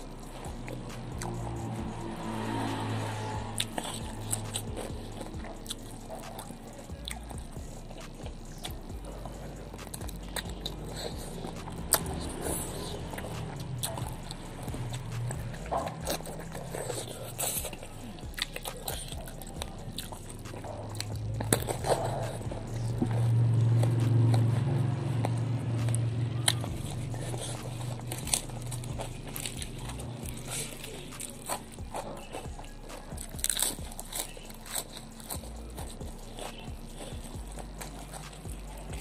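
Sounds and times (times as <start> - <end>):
low steady hum: 0.0 - 39.0
person chewing crunchy food: 0.0 - 39.0.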